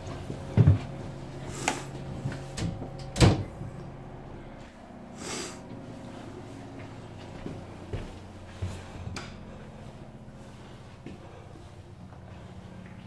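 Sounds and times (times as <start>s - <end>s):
ship machinery hum: 0.0s - 13.0s.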